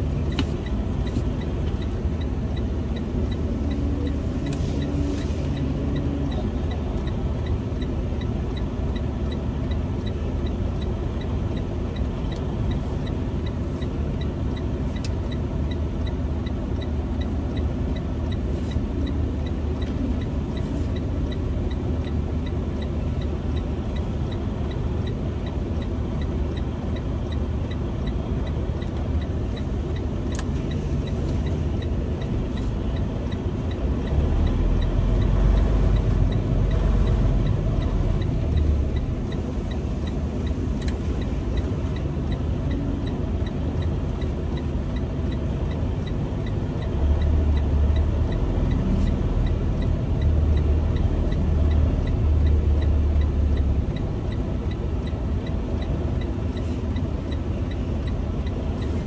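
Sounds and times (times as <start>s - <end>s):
diesel truck engine rumbling: 0.0s - 59.0s
faint regular ticking: 0.0s - 59.0s.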